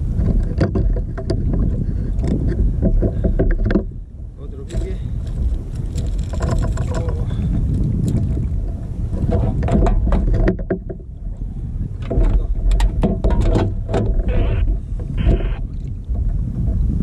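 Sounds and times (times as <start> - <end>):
knocks and rattles on plastic kayak: 0.0 - 17.0
wind rumbling on microphone: 0.0 - 17.0.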